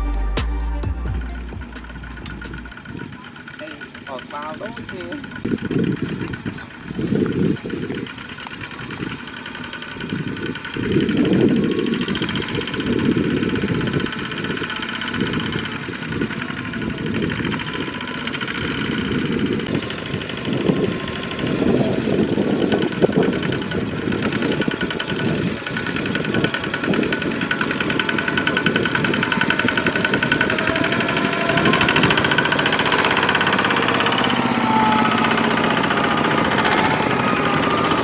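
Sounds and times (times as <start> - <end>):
diesel tractor engines running: 0.0 - 38.0.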